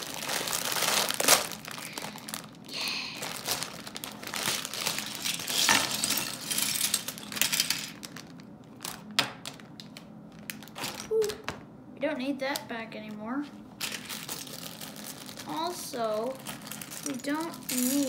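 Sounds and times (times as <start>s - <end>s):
plastic bag crinkling: 0.0s - 11.4s, 13.8s - 18.0s.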